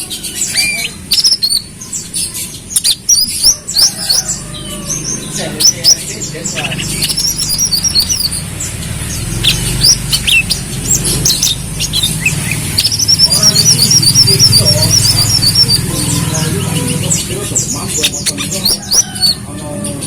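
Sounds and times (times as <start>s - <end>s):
bird chirping and trilling: 0.0s - 20.0s.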